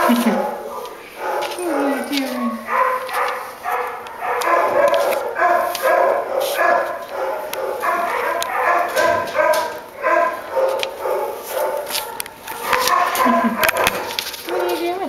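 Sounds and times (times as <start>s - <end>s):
dogs barking: 0.0s - 15.0s.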